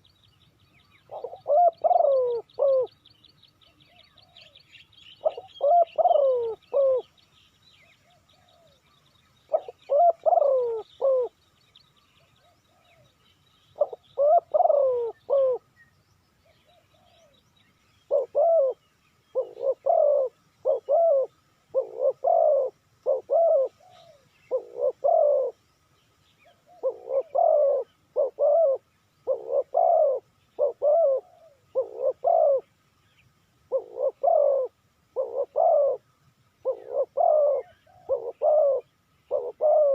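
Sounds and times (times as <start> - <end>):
dove cooing: 1.0 - 3.0, 3.6 - 7.2, 7.9 - 11.4, 12.2 - 15.7, 16.4 - 17.4, 18.0 - 25.6, 26.4 - 32.7, 33.7 - 39.9.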